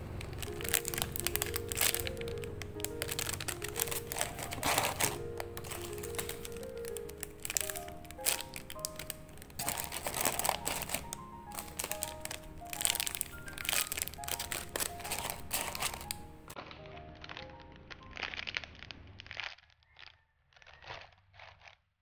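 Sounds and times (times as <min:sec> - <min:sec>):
light background music: 0:00.0 - 0:18.9
plastic bags crinkling: 0:00.0 - 0:21.8.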